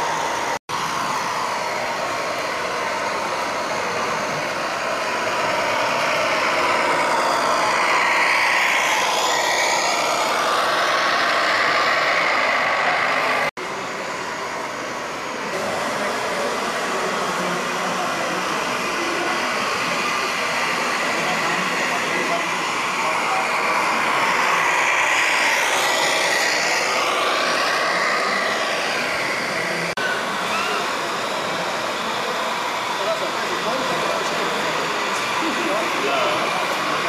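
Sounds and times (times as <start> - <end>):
toy truck engine noise: 0.0 - 37.0.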